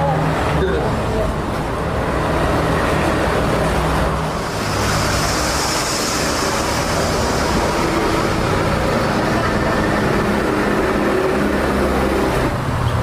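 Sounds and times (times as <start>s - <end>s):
road traffic rumble: 0.0s - 13.0s
vehicle passing hiss: 1.8s - 12.8s.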